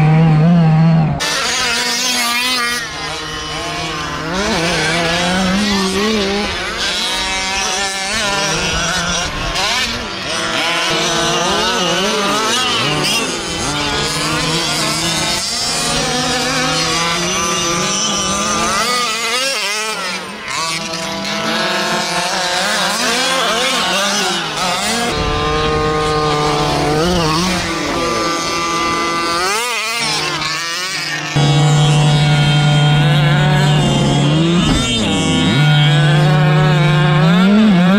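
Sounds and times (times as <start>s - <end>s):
small two-stroke engines revving: 0.0s - 37.9s.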